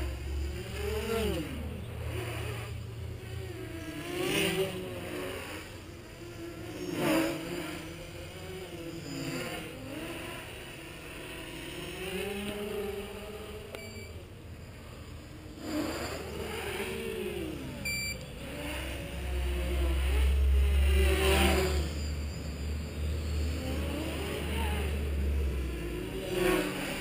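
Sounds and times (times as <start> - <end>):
quadcopter propellers whirring: 0.0 - 27.0.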